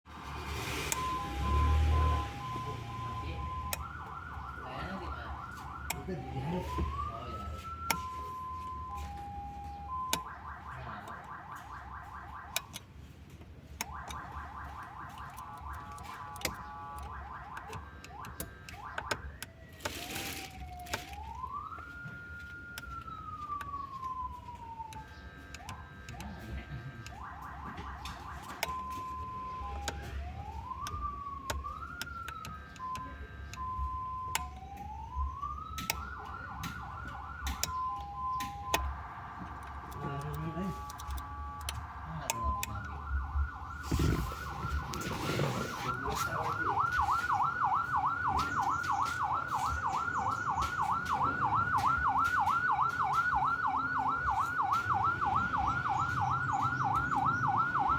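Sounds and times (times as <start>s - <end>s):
electronic ambulance siren: 0.1s - 57.9s
clicks: 6.6s - 26.4s, 27.0s - 57.9s.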